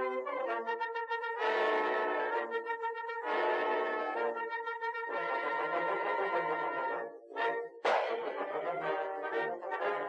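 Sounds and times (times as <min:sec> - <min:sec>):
brass instruments playing held notes: 0:00.0 - 0:10.0.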